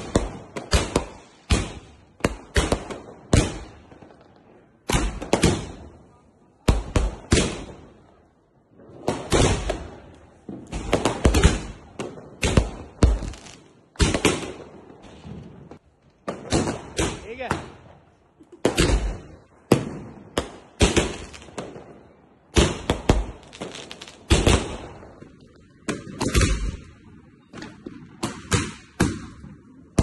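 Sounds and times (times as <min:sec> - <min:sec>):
firecrackers banging: 0:00.0 - 0:08.2, 0:08.9 - 0:30.0.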